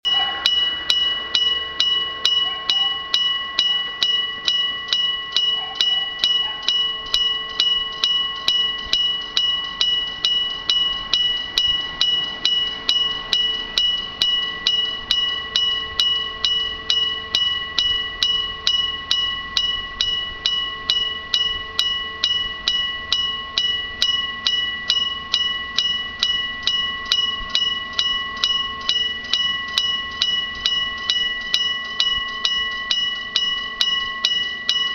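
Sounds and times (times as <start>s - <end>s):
level crossing bell ringing: 0.0s - 34.9s.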